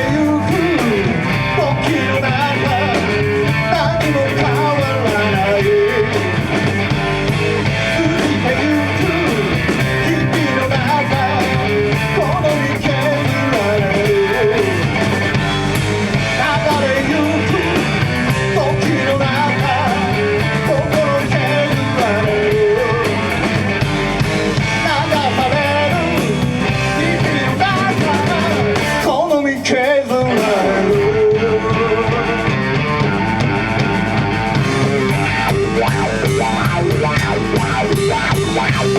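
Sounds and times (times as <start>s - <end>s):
bass: 0.0s - 38.9s
drum kit: 0.0s - 38.9s
electric guitar: 0.0s - 38.9s.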